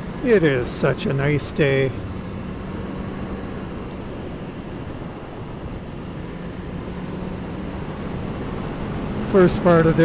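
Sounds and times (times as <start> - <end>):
motorcycle engine hum: 0.0 - 10.0.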